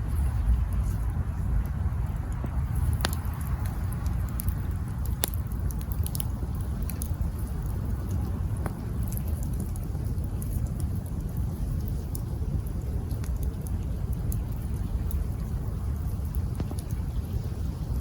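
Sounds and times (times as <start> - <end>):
campfire crackling and popping: 0.0 - 18.0
low steady fire rumble: 0.0 - 18.0.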